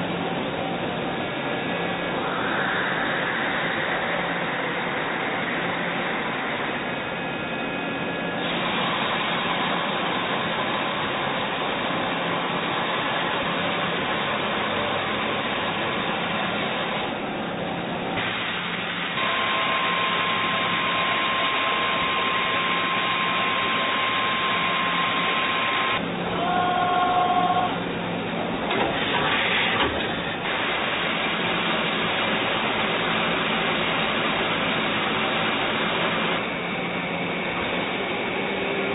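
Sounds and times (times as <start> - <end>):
spindle whine: 0.0 - 38.9.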